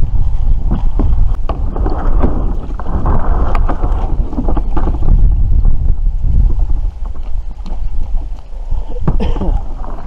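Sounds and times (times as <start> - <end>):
wind rumble on microphone: 0.0 - 10.0
kayak hull scraping over gravel: 0.1 - 8.3, 9.6 - 10.0.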